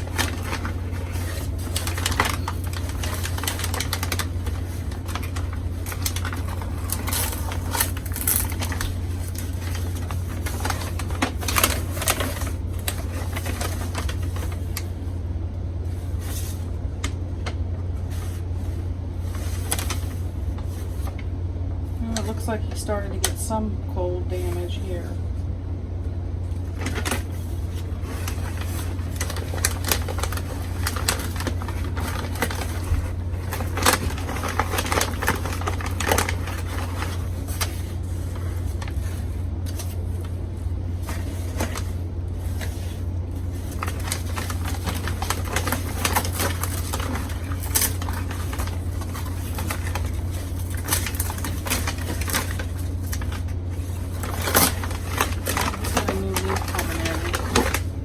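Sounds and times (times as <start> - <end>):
packaging crinkling and rustling: 0.0 - 15.1, 15.8 - 23.4, 26.4 - 58.0
low electrical hum: 0.0 - 58.0.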